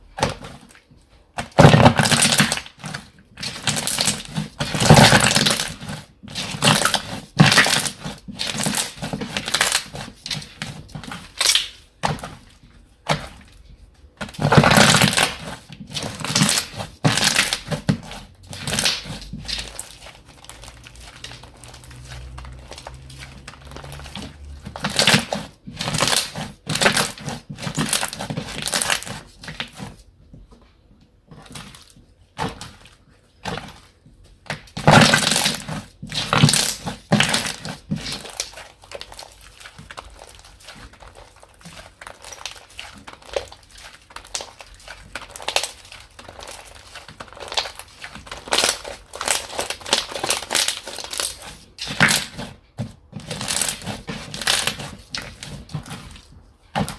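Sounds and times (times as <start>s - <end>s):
slime squished by hand: 0.0s - 30.1s, 31.3s - 56.9s.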